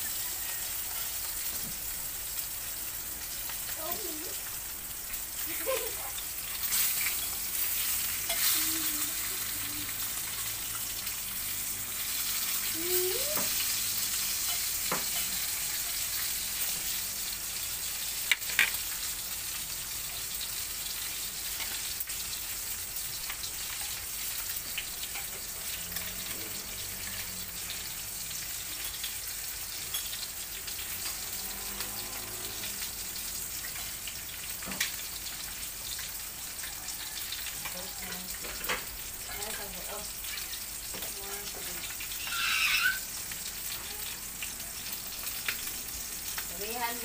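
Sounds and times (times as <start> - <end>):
hotdogs sizzling in oil: 0.0 - 47.0.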